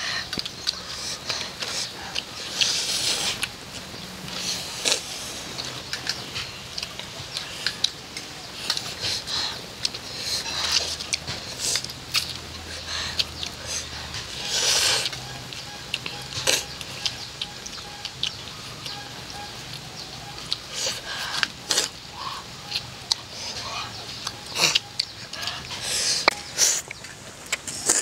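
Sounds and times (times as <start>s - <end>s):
chewing and lip smacks: 0.0s - 28.0s.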